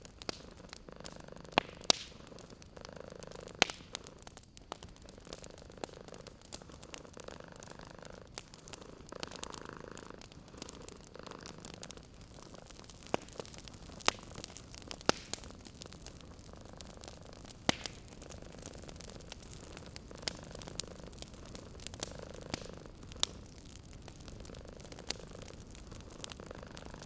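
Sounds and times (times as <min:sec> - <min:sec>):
sharp pops from fire: 0:00.0 - 0:27.0
wood fire crackling: 0:00.0 - 0:27.0
cat purring: 0:00.4 - 0:04.4, 0:05.0 - 0:27.0.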